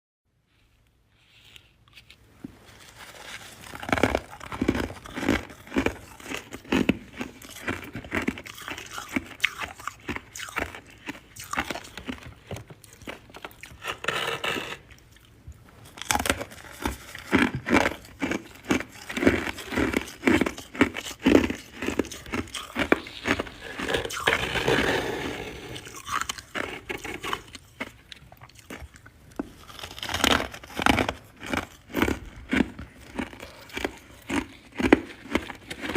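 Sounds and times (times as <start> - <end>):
person crunching ice: 2.8 - 15.2, 15.8 - 35.9.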